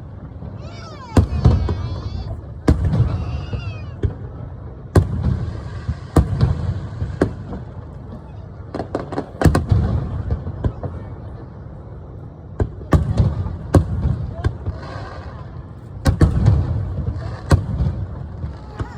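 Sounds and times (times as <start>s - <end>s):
fireworks bursting: 0.0s - 11.4s, 12.6s - 18.9s.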